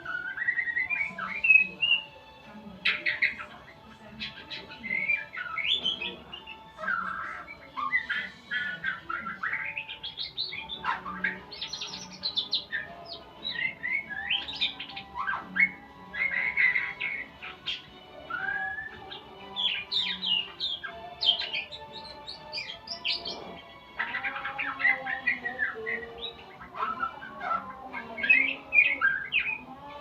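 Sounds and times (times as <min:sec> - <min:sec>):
songbird singing whistles and chirps: 0:00.0 - 0:30.0.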